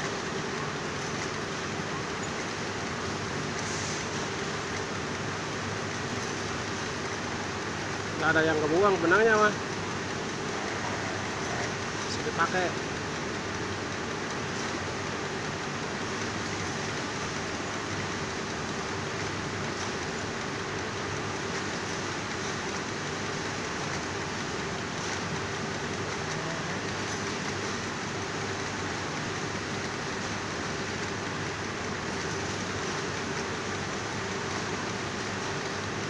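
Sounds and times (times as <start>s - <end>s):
winding machine whirring hum: 0.0s - 36.0s.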